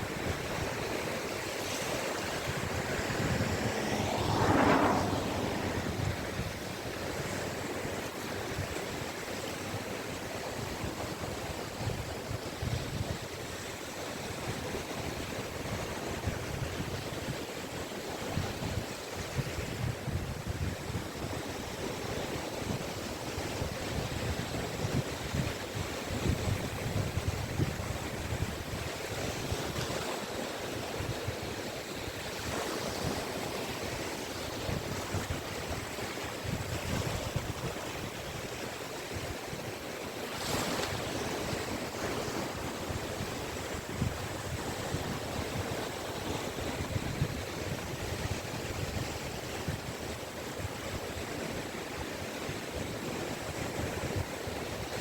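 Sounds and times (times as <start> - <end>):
sea waves washing onto beach: 0.0 - 23.7, 24.7 - 55.0
wind buffeting microphone: 0.0 - 55.0.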